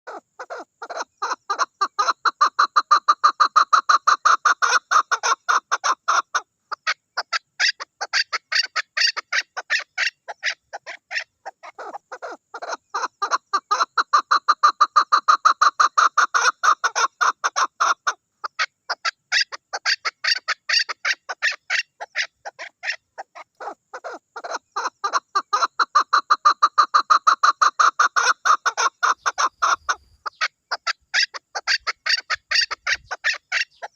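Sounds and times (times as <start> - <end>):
partridge rapid clucking calls: 0.1 - 33.9.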